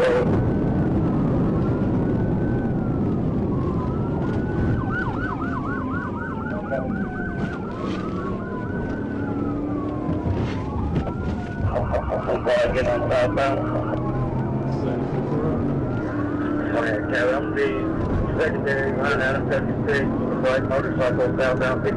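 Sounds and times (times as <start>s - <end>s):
police siren wailing and yelping: 0.0s - 21.9s
road rumble: 0.0s - 21.9s.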